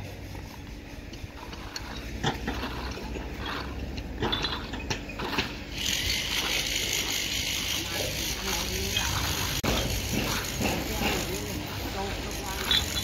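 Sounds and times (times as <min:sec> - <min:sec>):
low steady rumble: 0:00.0 - 0:13.0
trowels scraping wet concrete: 0:00.0 - 0:13.0.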